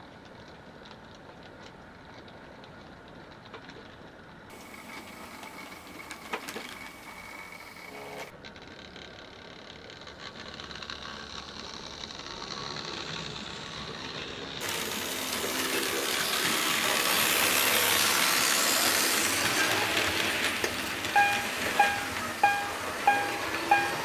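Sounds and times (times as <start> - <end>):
model train rolling and clicking: 0.0 - 24.0.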